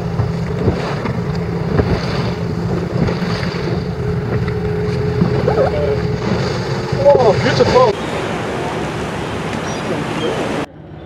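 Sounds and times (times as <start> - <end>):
boat engine drone: 0.0 - 11.0
sea waves washing: 0.0 - 11.0.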